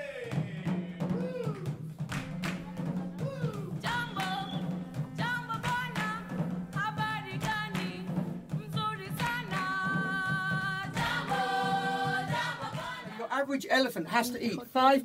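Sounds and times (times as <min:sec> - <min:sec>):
steady drum beat: 0:00.0 - 0:14.7.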